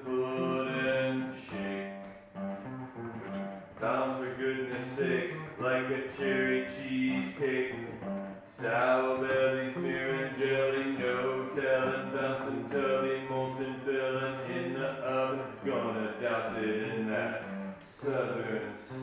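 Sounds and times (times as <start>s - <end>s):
man singing long notes: 0.0s - 2.2s, 3.2s - 19.0s
guitar accompaniment: 0.0s - 19.0s.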